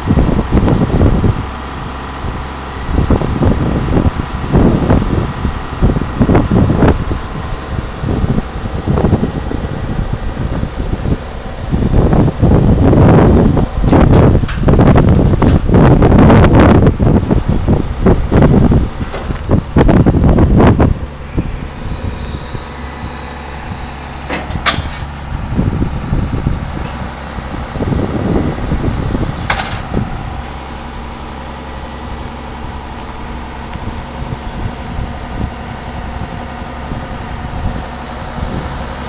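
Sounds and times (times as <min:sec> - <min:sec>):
tractor engine idling: 0:00.0 - 0:39.0
wind buffeting microphone: 0:00.0 - 0:39.0.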